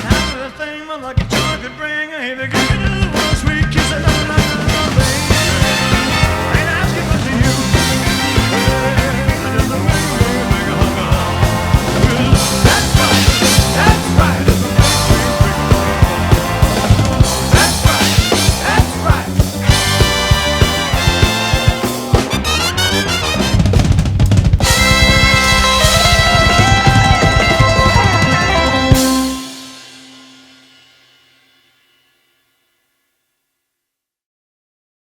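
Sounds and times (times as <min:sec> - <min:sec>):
rock and roll band playing: 0:00.0 - 0:31.4.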